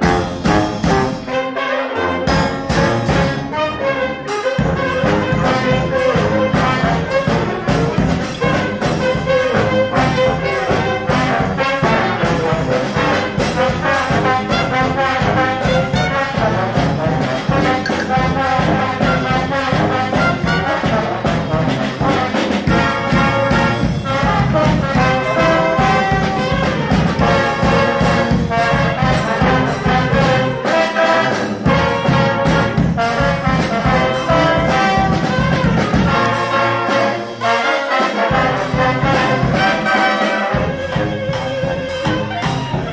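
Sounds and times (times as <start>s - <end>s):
brass band playing: 0.0s - 42.9s.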